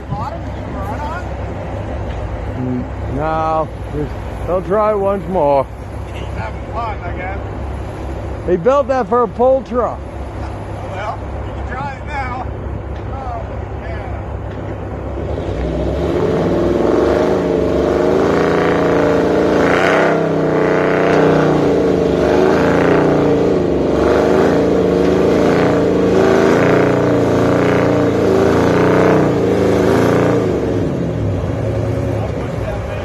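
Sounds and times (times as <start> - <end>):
truck engine straining: 0.0 - 33.0.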